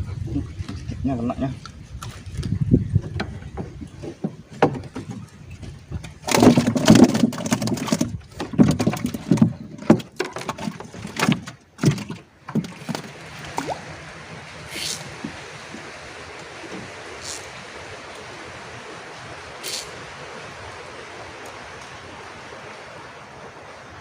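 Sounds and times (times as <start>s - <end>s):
water splashing against boat: 0.0s - 24.0s.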